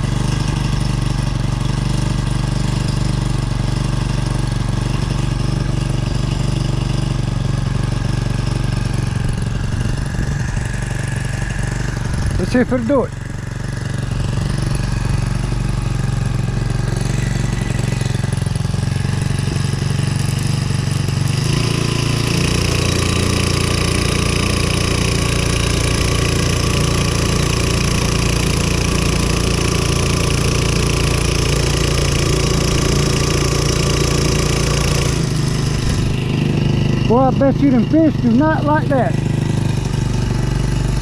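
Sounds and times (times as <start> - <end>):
outboard motor running: 0.0 - 41.0.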